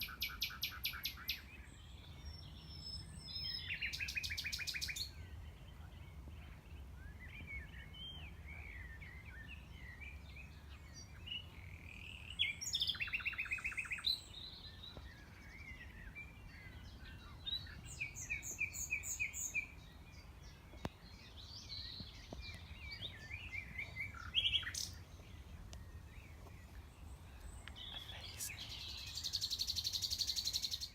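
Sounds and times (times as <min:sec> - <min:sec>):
nightingale singing: 0:00.0 - 0:05.4, 0:07.0 - 0:30.9.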